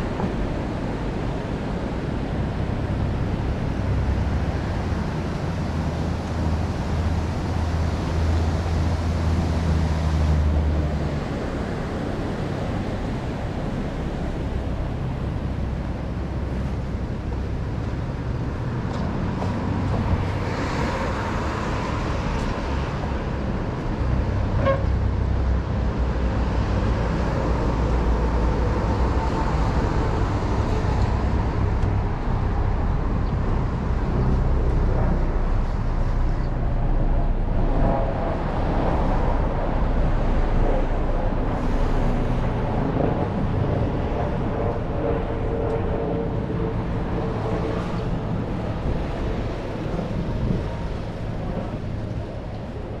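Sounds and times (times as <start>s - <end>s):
cars passing: 0.0s - 53.0s.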